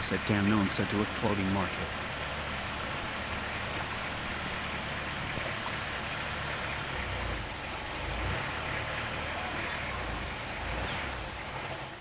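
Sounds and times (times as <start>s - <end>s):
boat engine hum: 0.0s - 12.0s
water and wind hiss: 0.0s - 12.0s.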